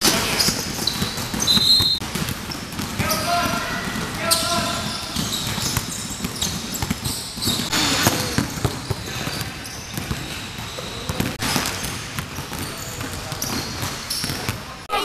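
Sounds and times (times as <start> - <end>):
basketballs bouncing on gym floor: 0.0 - 14.9.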